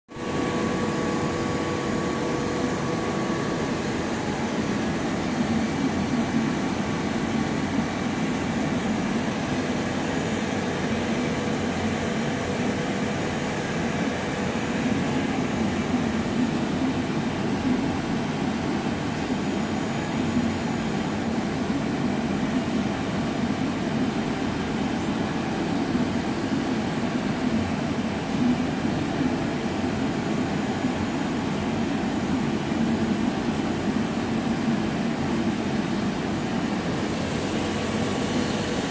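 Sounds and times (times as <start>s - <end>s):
machine humming and hissing: 0.1s - 38.9s.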